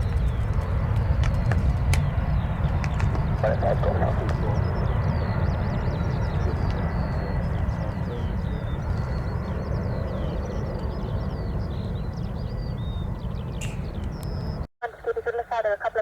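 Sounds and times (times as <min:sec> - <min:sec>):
birds chirping and warbling: 0:00.0 - 0:14.7
jet aircraft rumble: 0:00.0 - 0:14.7.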